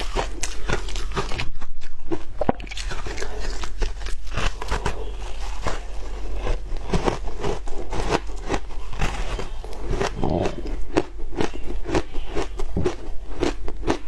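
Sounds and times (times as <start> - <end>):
chewing shaved ice crunches: 0.0 - 14.0.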